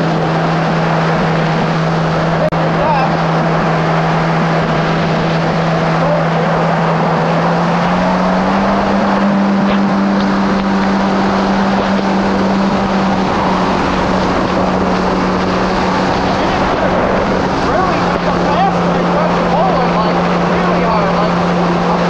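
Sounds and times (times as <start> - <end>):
jet ski engine running: 0.0 - 22.0
rush of water and wind: 0.0 - 22.0.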